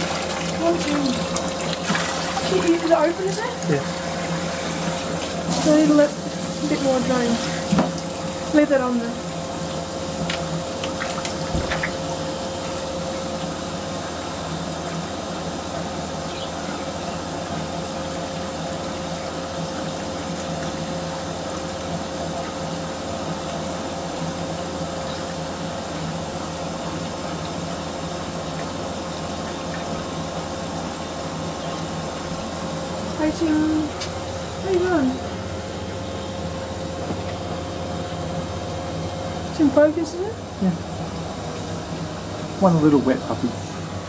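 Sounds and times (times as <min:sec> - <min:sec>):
motor hum: 0:00.0 - 0:44.0
water running: 0:00.0 - 0:44.0.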